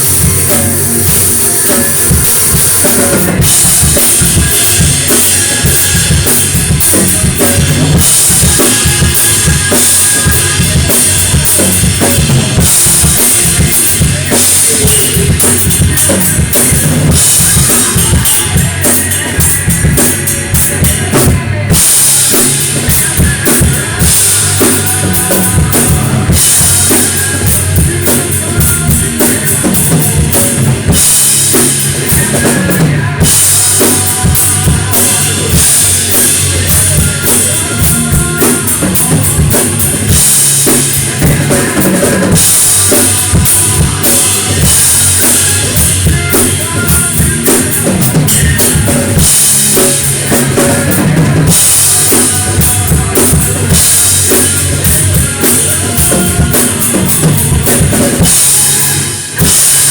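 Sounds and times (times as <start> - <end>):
drum kit rock beat: 0.0 - 59.9
heavy bass drum: 0.0 - 59.9.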